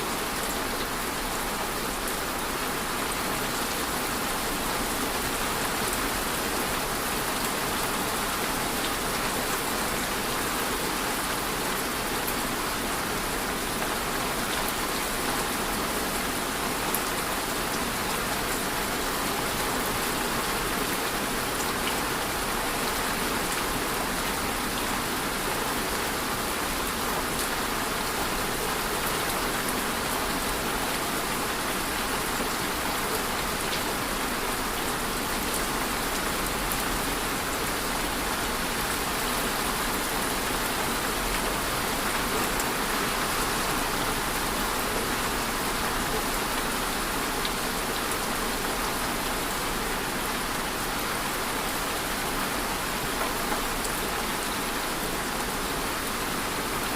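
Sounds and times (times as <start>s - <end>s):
rain pattering on surfaces: 0.1s - 56.9s.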